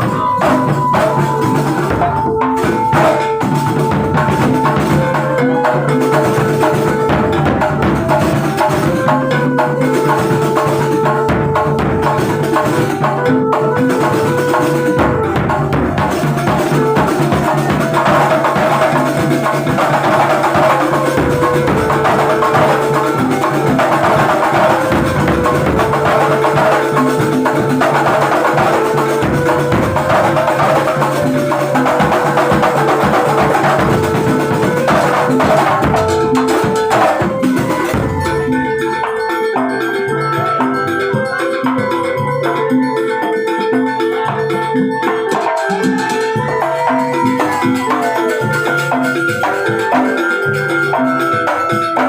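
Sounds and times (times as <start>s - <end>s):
hand-drum and percussion rhythms: 0.0s - 52.0s.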